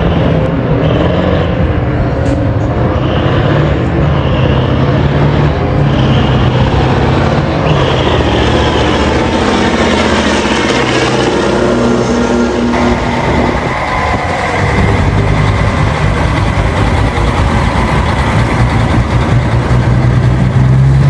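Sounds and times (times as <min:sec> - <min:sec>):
truck diesel engine at full throttle: 0:00.0 - 0:21.0.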